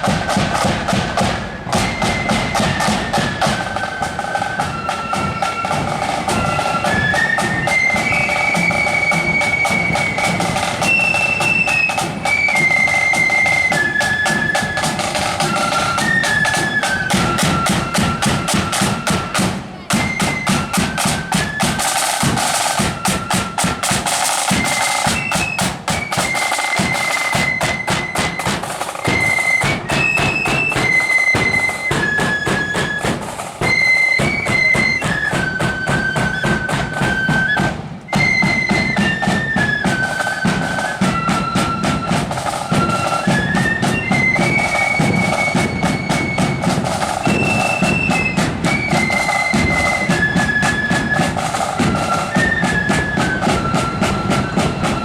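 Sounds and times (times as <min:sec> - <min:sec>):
marching band flutes: 0:00.0 - 0:55.0
snare and bass drums: 0:00.0 - 0:55.0.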